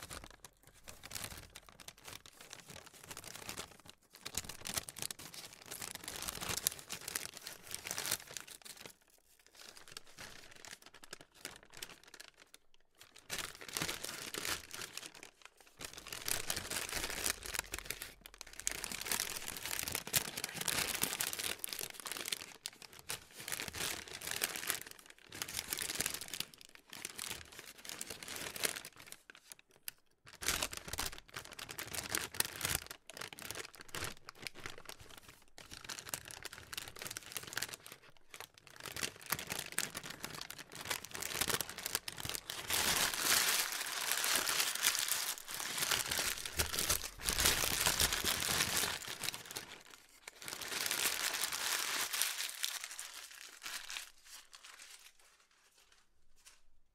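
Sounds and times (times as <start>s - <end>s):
paper crumpling: 0.0s - 56.7s.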